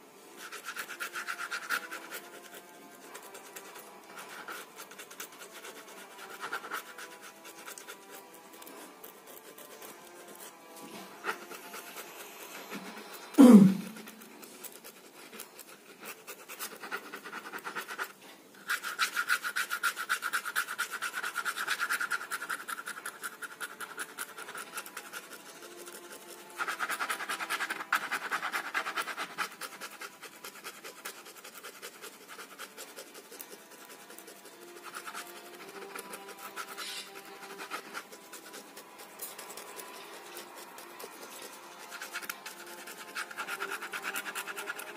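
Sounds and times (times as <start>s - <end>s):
pen scratching on carpet: 0.4s - 44.9s.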